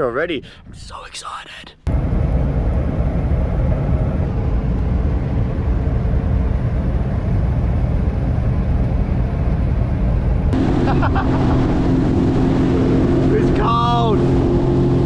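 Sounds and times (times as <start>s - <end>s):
vehicle road and engine rumble: 1.9s - 15.0s.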